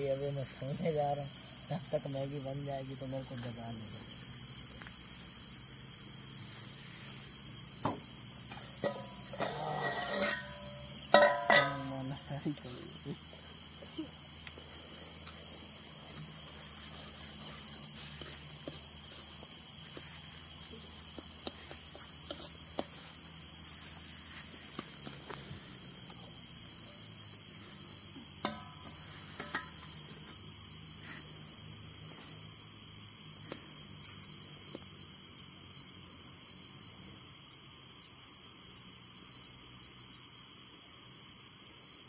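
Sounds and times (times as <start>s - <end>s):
crickets chirping: 0.0s - 42.0s.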